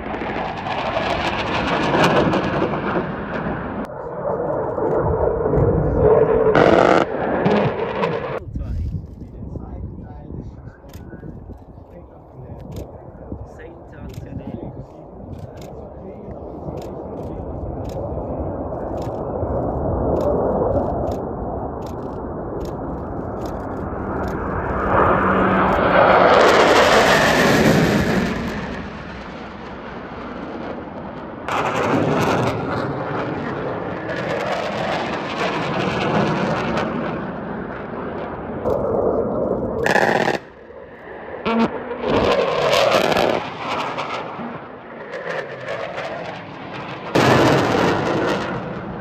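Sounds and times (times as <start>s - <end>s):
fighter jet roar passing: 0.0s - 8.5s, 9.9s - 49.0s.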